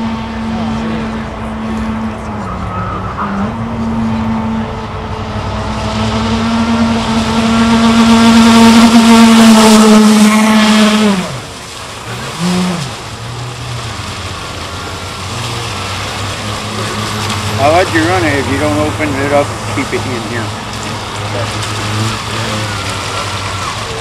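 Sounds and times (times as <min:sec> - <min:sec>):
electric boat motor whining: 0:00.0 - 0:24.0.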